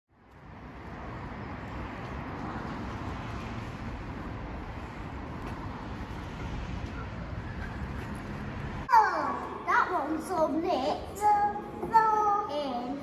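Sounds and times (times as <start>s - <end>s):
distant traffic hum: 0.1s - 13.0s.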